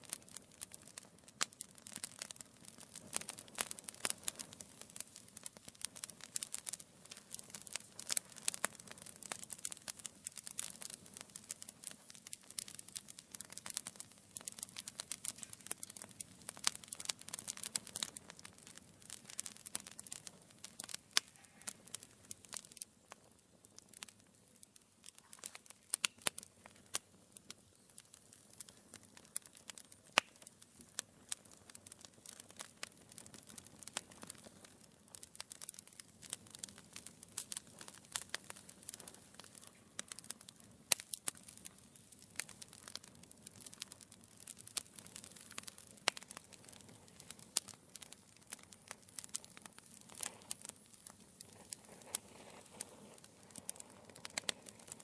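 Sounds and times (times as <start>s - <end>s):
soft fire hiss: 0.0s - 55.0s
wood fire crackling and popping: 0.0s - 55.0s.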